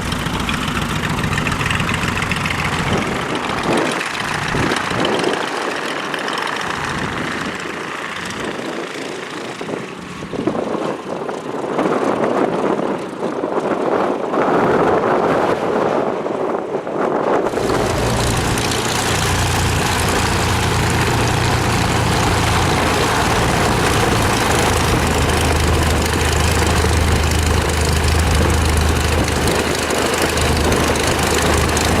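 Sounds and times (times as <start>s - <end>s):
propeller plane engine drone: 0.0s - 32.0s.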